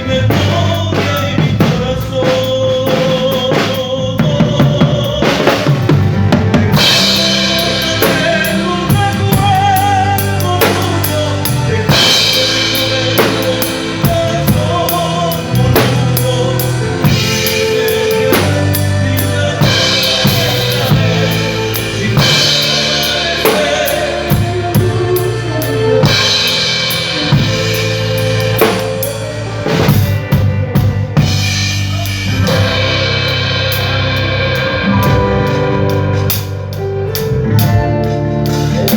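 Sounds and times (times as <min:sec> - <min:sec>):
band playing: 0:00.0 - 0:38.9
drum kit: 0:00.0 - 0:38.9.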